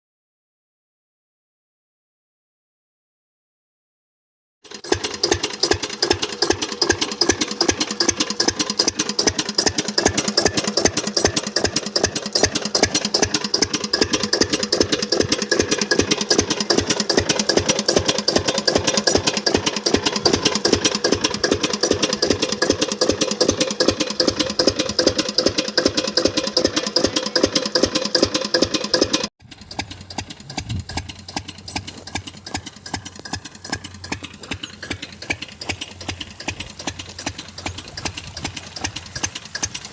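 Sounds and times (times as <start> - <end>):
diesel pump engine chugging: 4.7 - 39.9.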